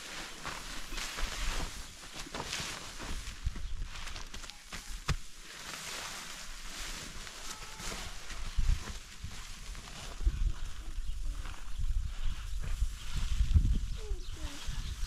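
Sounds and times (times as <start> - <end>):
rustling of fodder and plastic sacks: 0.0 - 15.0.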